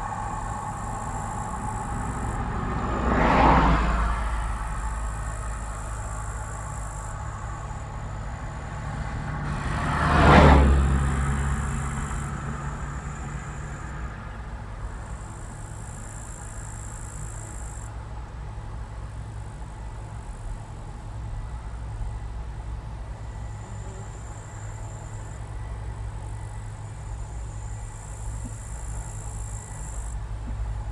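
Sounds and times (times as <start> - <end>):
combine harvester droning: 0.0 - 30.9.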